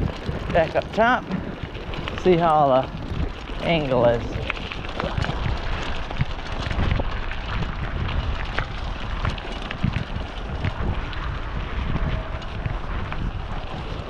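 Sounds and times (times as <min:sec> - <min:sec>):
bike clicks and knocks: 0:00.0 - 0:14.0
low rumble: 0:00.0 - 0:14.0
wind buffeting microphone: 0:00.0 - 0:14.0.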